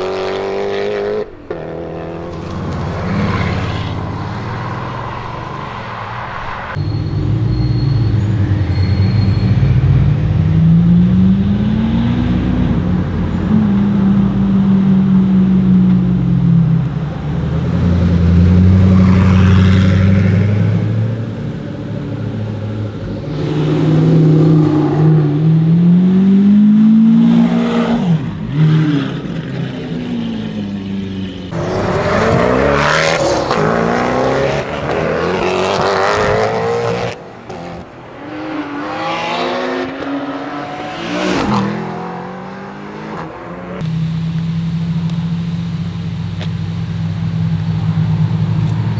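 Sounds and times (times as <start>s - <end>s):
car engines revving hard: 0.0s - 46.4s.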